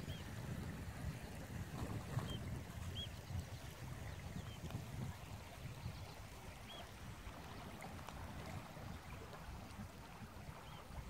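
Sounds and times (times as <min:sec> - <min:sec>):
river over gravel: 0:00.0 - 0:11.0
wind rumbling on microphone: 0:00.0 - 0:11.0.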